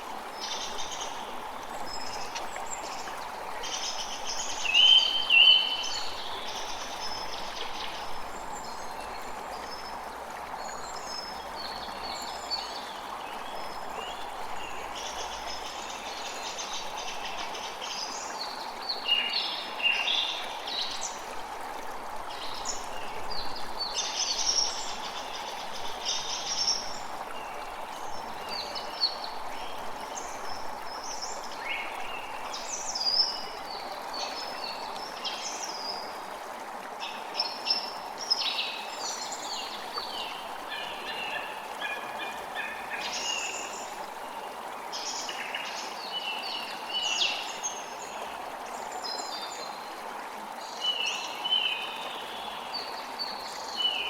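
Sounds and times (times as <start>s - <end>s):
creek flowing: 0.0s - 54.0s.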